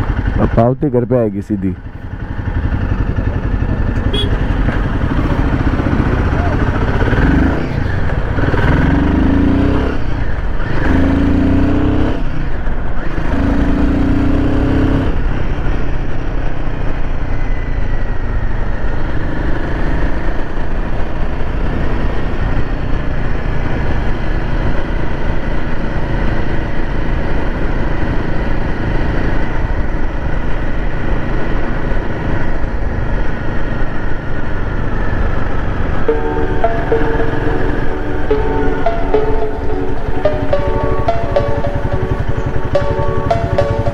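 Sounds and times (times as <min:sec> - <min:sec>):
road noise: 0:00.0 - 0:43.9
motorcycle engine accelerating: 0:01.8 - 0:25.0, 0:30.8 - 0:43.9.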